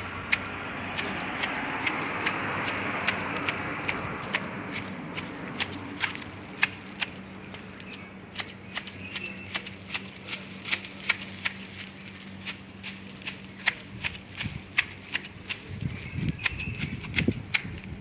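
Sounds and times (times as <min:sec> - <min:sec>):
pruning shears snipping: 0:00.0 - 0:17.9.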